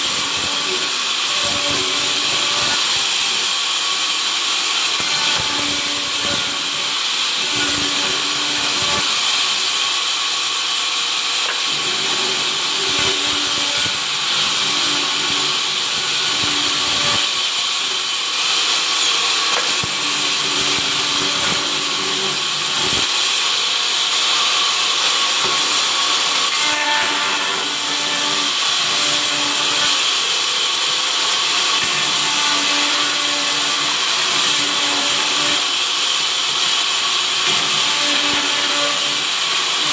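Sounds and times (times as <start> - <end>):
sawmill high whir: 0.0 - 39.9.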